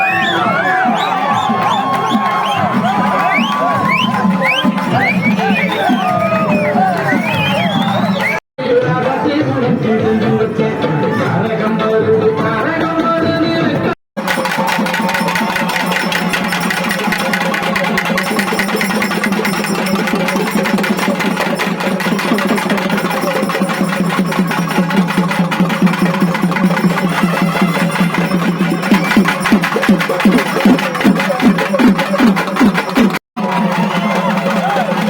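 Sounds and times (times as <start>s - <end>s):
fast driving electronic beat: 0.0s - 8.4s, 14.2s - 35.0s.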